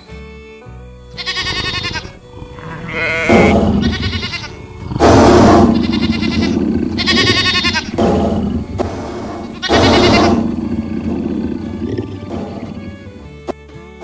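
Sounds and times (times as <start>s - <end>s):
sheep bleating: 1.1s - 13.4s.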